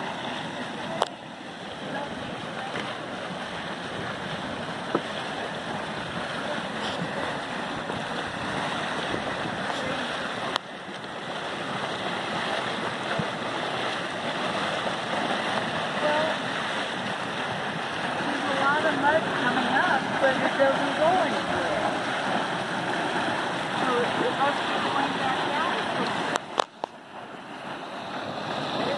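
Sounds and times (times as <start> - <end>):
hot mud churning: 0.0 - 28.9
steam hissing from mud pot: 1.4 - 26.3.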